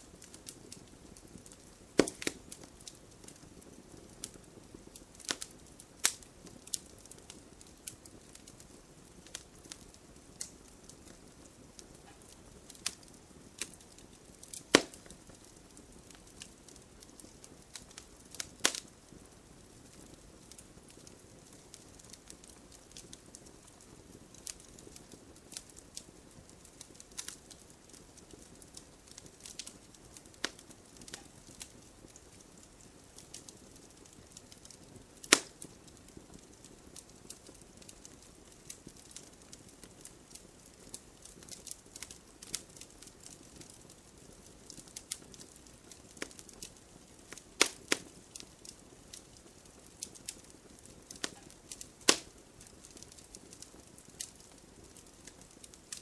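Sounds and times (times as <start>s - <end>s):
campfire crackling: 0.0s - 56.0s
loud fire pops: 0.1s - 56.0s.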